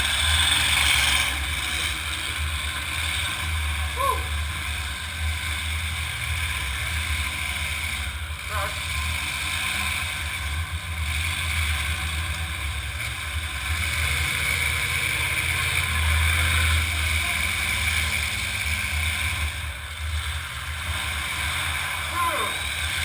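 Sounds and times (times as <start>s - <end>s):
car engines rumbling: 0.0s - 23.0s.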